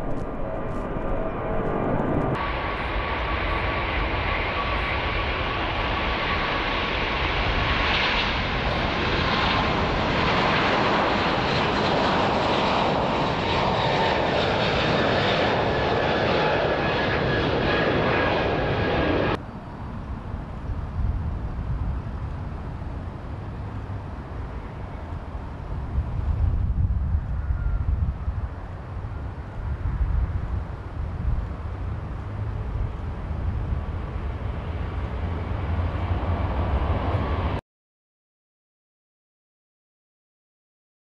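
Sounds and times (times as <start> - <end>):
jet engines roaring: 0.0 - 37.6.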